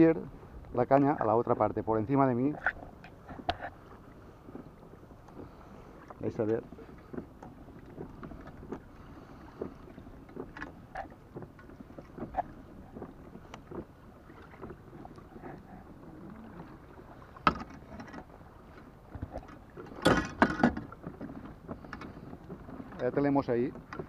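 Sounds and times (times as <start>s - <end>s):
hiss of water and wind: 0.0s - 24.0s.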